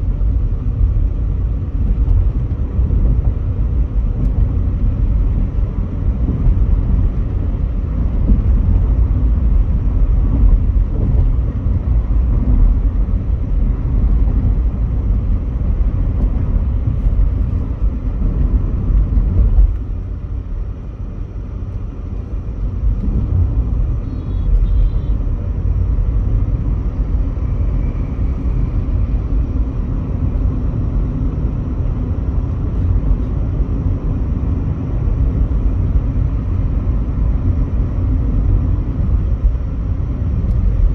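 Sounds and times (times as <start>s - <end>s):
car interior road rumble: 0.0s - 40.9s.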